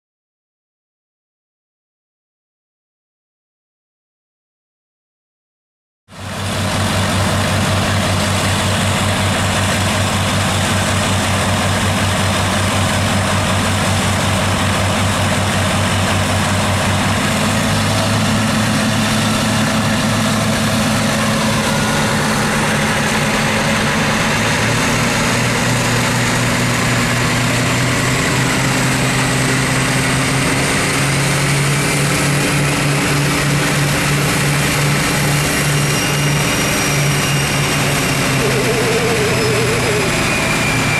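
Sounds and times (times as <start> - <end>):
diesel locomotive engines revving: 6.1 - 40.9.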